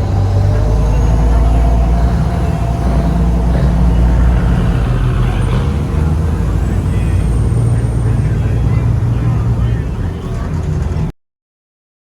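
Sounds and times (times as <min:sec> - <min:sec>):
large engine rumbling: 0:00.0 - 0:11.1.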